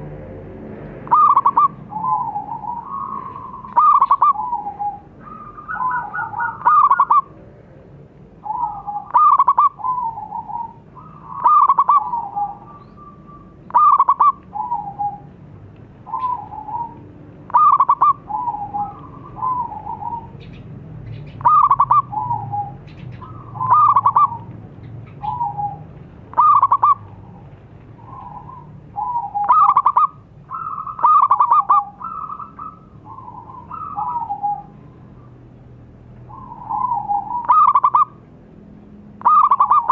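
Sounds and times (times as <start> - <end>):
dove cooing song: 1.0 - 7.7, 8.4 - 15.4, 16.0 - 35.5, 36.1 - 38.2, 39.2 - 39.9.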